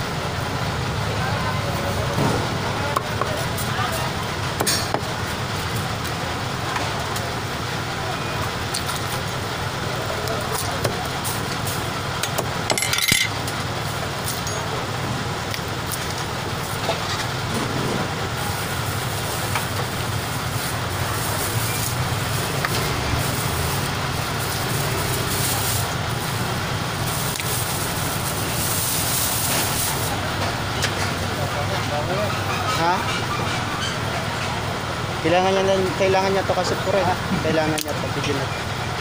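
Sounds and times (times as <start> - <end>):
market background noise: 0.0 - 39.0
traffic hum: 0.0 - 39.0.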